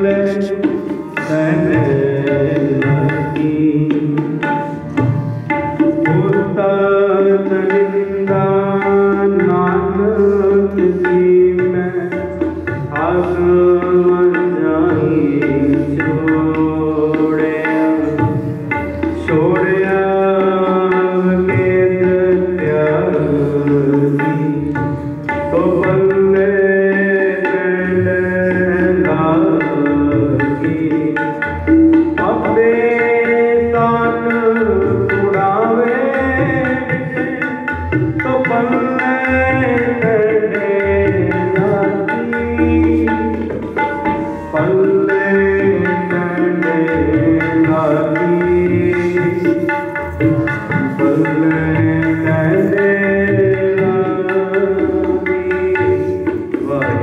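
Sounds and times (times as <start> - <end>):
harmonium melody: 0.0 - 57.0
tabla drumming: 0.0 - 57.0.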